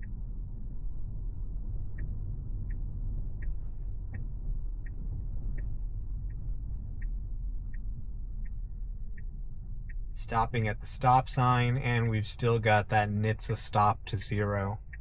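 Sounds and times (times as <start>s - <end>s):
road noise inside car: 0.0s - 15.0s
turn signal ticking: 0.0s - 15.0s.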